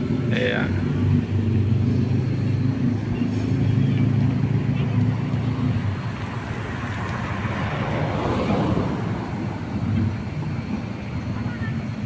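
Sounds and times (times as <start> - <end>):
vehicle passing close by: 0.0 - 11.5
background road traffic: 0.0 - 12.0.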